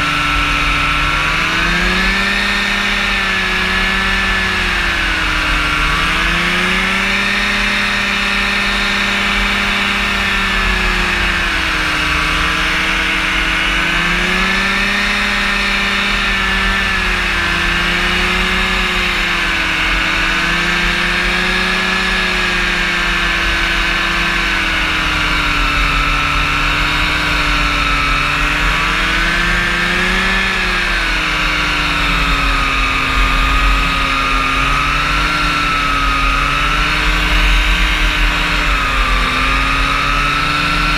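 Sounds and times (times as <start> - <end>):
engine and propeller droning: 0.0 - 40.9.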